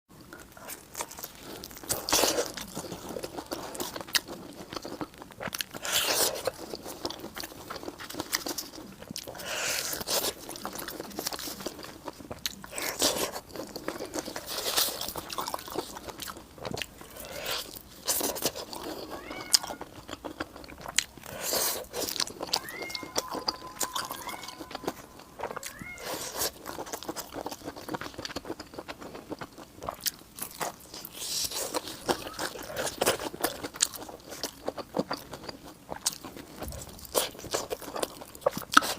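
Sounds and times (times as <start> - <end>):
person eating and chewing: 0.1 - 38.9.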